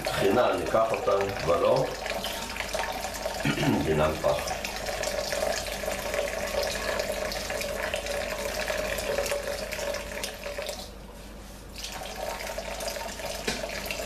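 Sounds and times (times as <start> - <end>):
tap water splashing in a sink: 0.0 - 10.9, 11.8 - 14.0.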